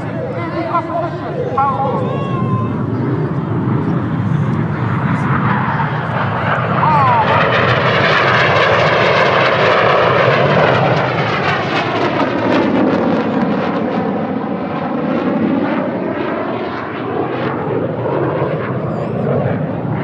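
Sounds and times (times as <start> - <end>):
jets roaring past: 0.0 - 20.0.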